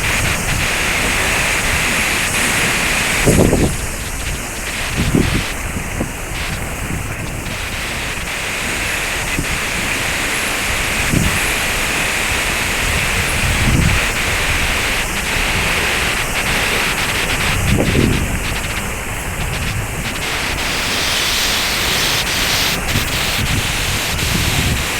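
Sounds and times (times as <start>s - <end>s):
waterfall roaring: 0.0s - 24.9s
wind buffeting microphone: 0.0s - 24.9s.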